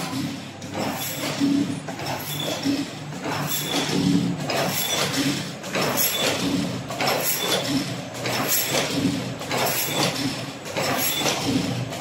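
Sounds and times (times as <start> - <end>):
machine rhythmic metal clatter: 0.0 - 12.0.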